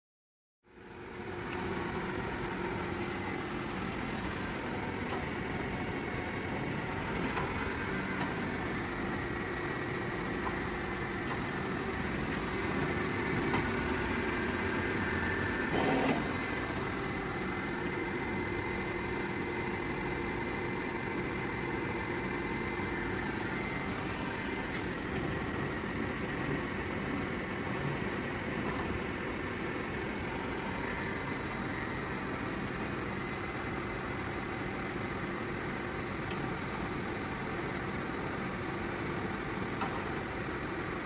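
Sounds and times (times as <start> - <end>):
mill machine humming and whining: 0.7 - 41.0
loud machine noise: 1.1 - 41.0.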